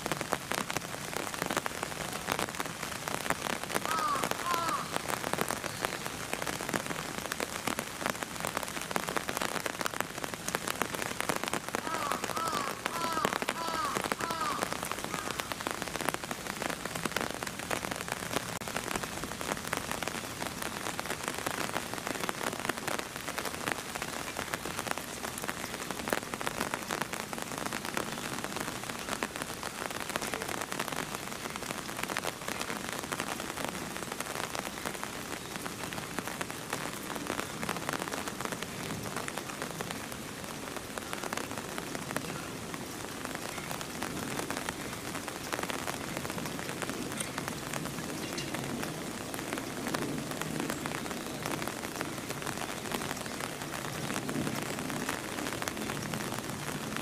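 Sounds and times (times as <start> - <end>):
rain pattering on a surface: 0.0 - 57.0
raindrops ticking close by: 0.0 - 57.0.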